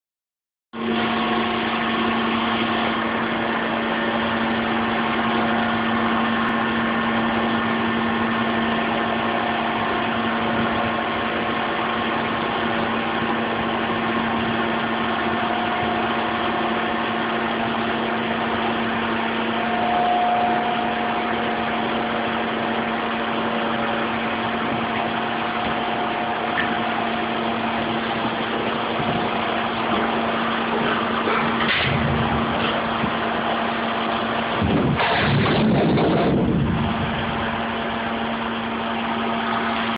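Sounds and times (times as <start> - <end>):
trash compactor motor hum: 0.8 - 39.9.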